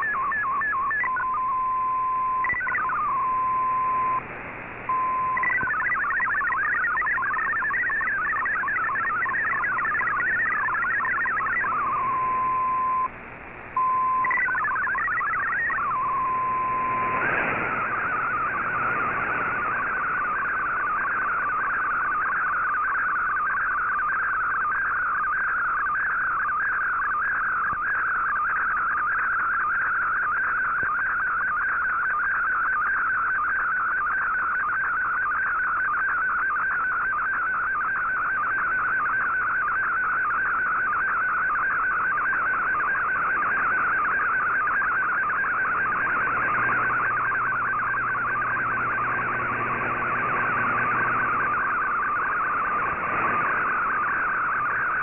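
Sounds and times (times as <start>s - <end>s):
rapidly warbling data tone: 0.0s - 4.2s, 4.9s - 13.1s, 13.8s - 55.0s
receiver hiss: 0.0s - 55.0s.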